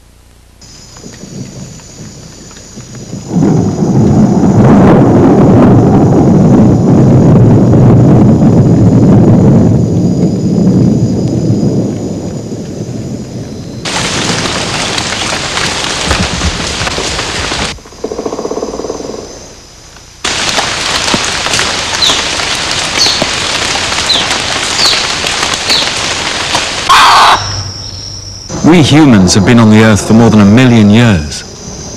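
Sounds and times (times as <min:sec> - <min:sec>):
heavy rain hissing: 0:00.6 - 0:18.0, 0:19.1 - 0:31.9
thunder rumbling: 0:00.8 - 0:31.9.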